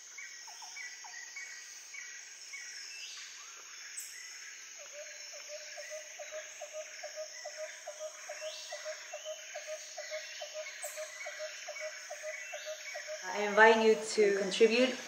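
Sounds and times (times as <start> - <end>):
insects hissing: 0.0 - 15.0.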